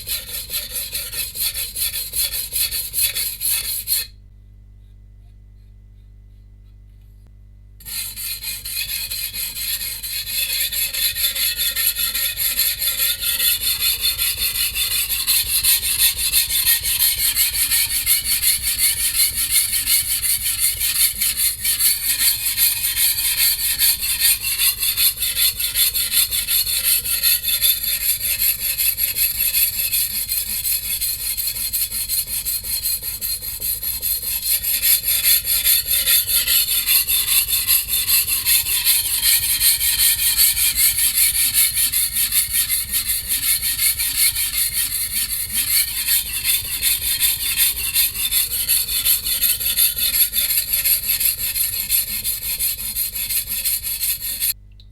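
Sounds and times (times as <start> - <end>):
blade scraping on whetstone: 0.0 - 4.2, 7.8 - 54.6.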